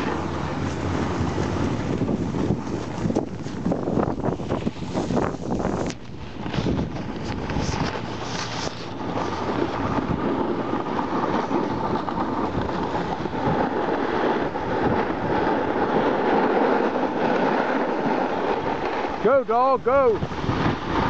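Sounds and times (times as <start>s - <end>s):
snowboard scraping over snow: 0.0s - 21.0s
wind rushing over microphone: 0.0s - 21.0s.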